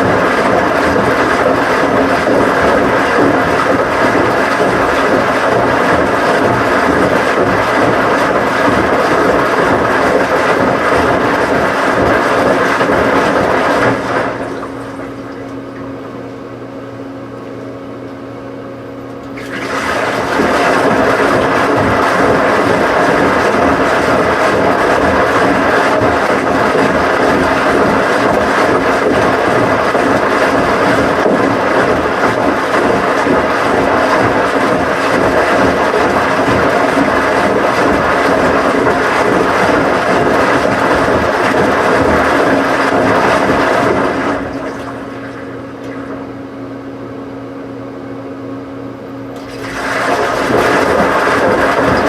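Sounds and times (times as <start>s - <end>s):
washing machine motor hum: 0.0s - 52.0s
washing machine water rushing: 0.0s - 52.0s.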